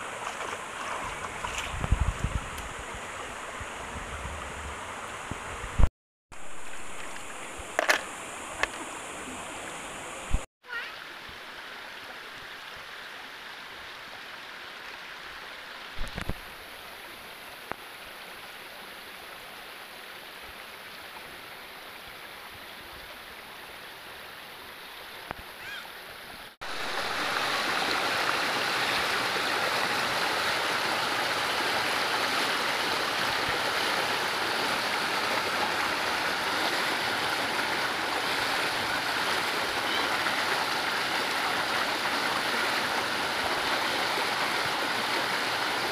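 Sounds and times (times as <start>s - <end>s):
river running over rocks: 0.0s - 45.9s.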